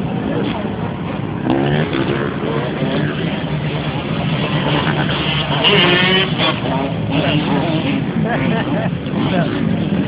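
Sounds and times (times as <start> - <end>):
dirt bike engines running: 0.0 - 10.0
people's voices: 0.0 - 10.0.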